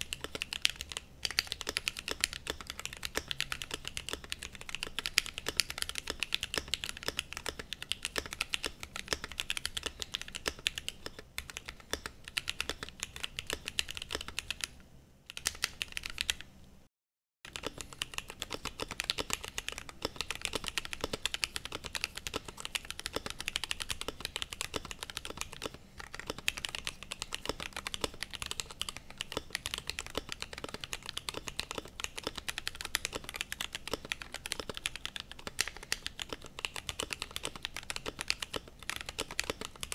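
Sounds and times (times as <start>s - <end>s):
mechanical keyboard typing: 0.0s - 16.5s, 17.5s - 39.9s.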